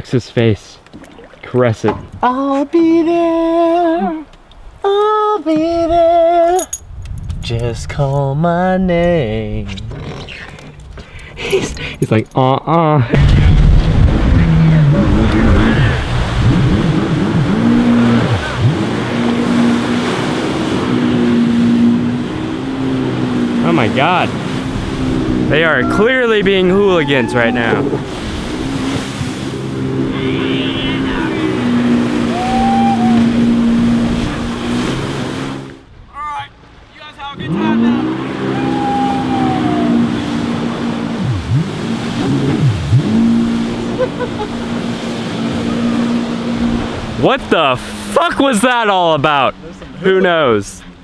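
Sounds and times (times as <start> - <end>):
personal watercraft engine: 0.8 - 51.0.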